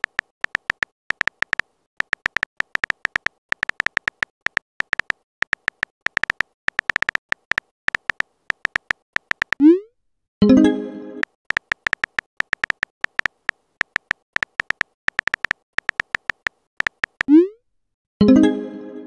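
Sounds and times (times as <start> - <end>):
phone keyboard clicks: 0.0 - 9.7, 11.2 - 17.4.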